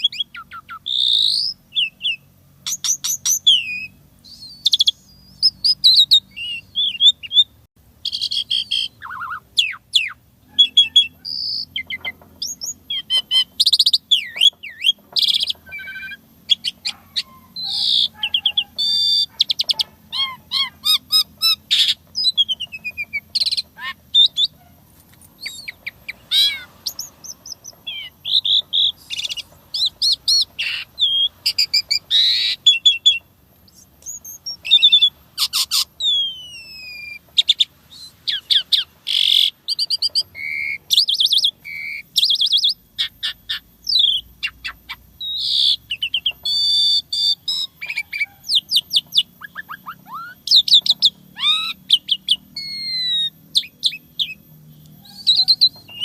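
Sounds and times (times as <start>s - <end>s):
myna bird singing: 0.0s - 56.0s.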